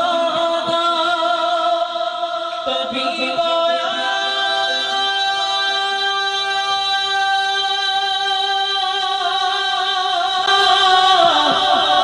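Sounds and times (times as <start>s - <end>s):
person singing a cappella: 0.0s - 12.0s.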